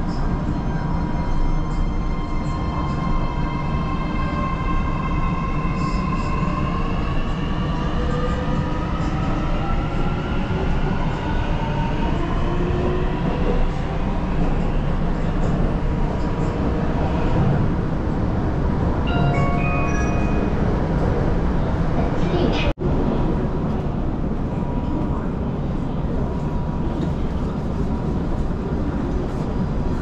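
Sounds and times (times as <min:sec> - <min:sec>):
rumble of wheels on rail: 0:00.0 - 0:30.0.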